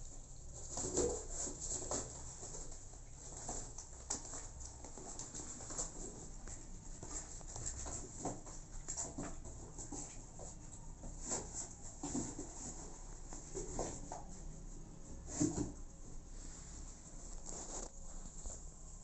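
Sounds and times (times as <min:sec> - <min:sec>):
kitten scratching cloth: 0:00.5 - 0:14.4, 0:15.2 - 0:18.9.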